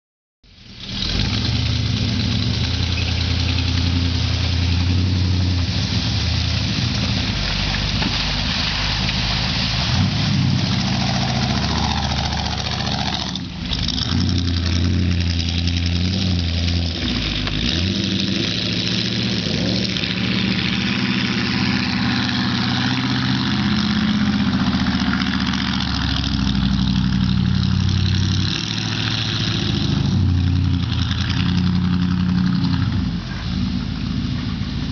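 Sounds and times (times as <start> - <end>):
car engine revving: 0.6 - 34.9.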